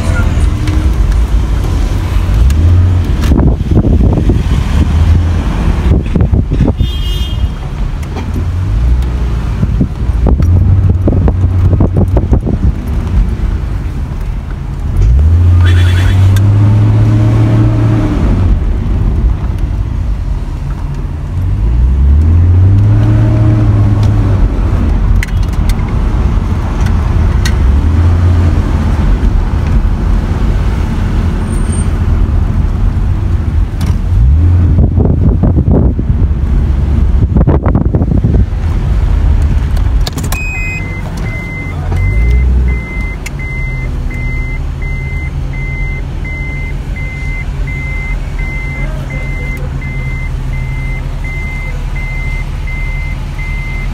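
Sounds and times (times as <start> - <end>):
road rumble inside car: 0.0 - 53.9
car engine accelerating: 7.8 - 53.9.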